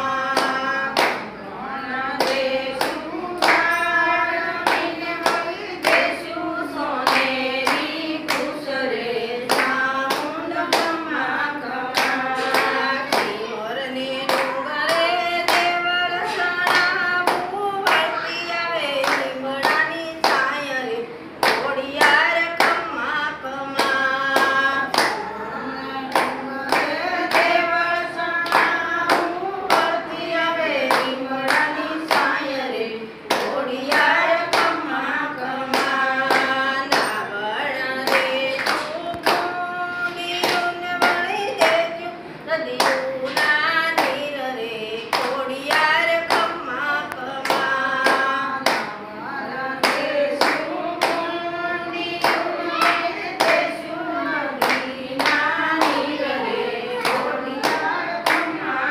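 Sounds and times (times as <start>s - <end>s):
women singing a devotional song: 0.0s - 58.9s
steady hand claps: 0.1s - 20.7s, 21.4s - 25.3s, 26.1s - 32.7s, 33.3s - 42.0s, 42.7s - 44.4s, 45.0s - 49.0s, 49.7s - 58.9s.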